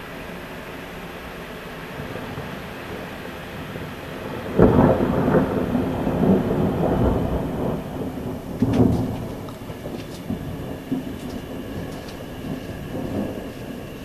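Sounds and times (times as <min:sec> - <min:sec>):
rain hissing: 0:00.0 - 0:14.0
thunder clap and rumble: 0:01.9 - 0:14.0.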